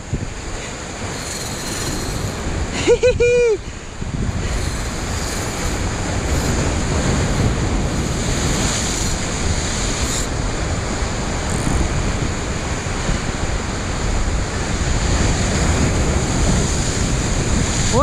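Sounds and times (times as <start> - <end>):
ocean surf washing over rocks: 0.0 - 18.0
wind rumbling on microphone: 0.0 - 18.0.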